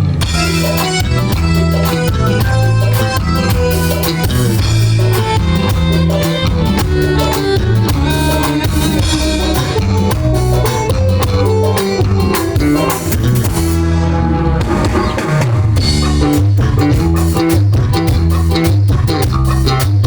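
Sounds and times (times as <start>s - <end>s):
drum kit beat: 0.0s - 20.0s
live band playing loud music: 0.0s - 20.0s.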